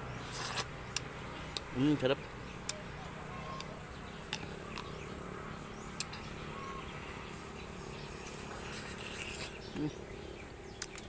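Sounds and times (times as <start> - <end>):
faint bird chirps: 0.0 - 11.0
outdoor background: 0.0 - 11.0
biting and chewing fruit: 0.1 - 11.0.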